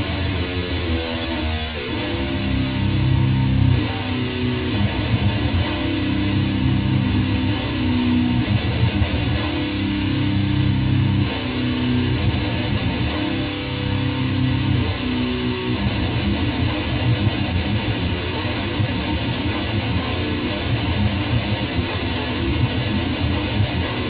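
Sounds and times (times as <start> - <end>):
distorted electric guitar riff: 0.0 - 24.0.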